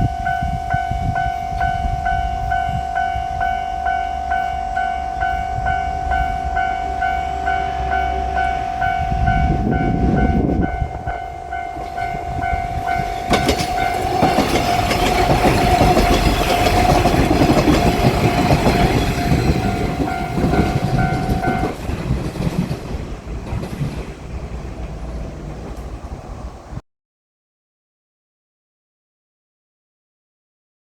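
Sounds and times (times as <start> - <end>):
railroad crossing warning bell: 0.0 - 26.8
train passing with heavy rumble: 0.0 - 26.8
train wheel noise: 0.0 - 26.8.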